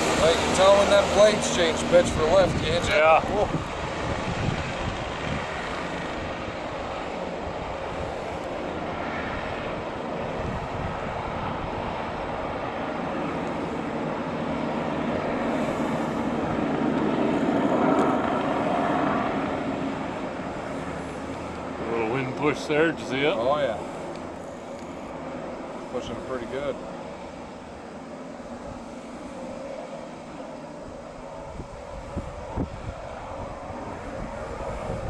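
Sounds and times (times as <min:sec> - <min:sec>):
helicopter flying past: 0:00.0 - 0:35.0.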